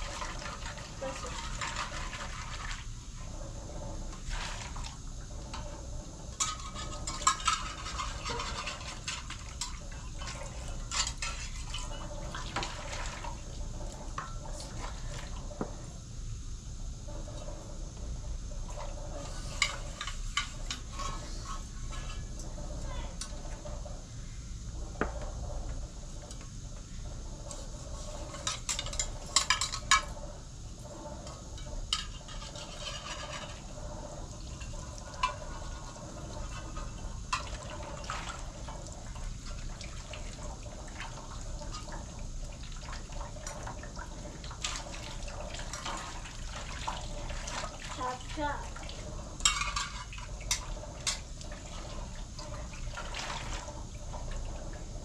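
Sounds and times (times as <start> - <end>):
dishes scrubbing and water splashing: 0.0 - 15.9, 18.6 - 23.9, 27.5 - 55.0.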